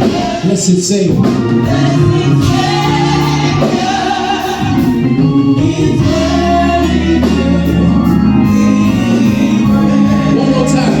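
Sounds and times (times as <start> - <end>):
group singing gospel chorus: 0.0 - 11.0
instrumental bass notes: 0.0 - 11.0.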